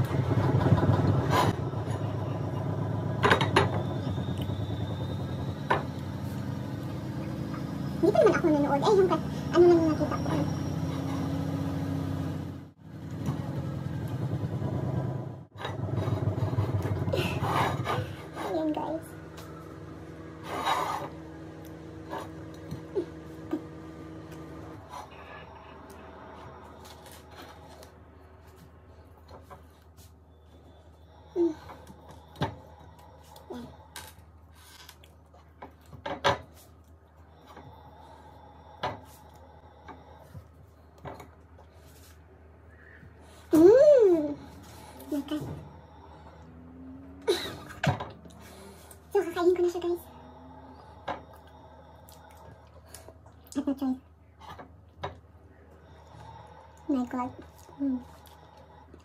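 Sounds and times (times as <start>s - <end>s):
low engine-like hum: 0.0s - 59.0s.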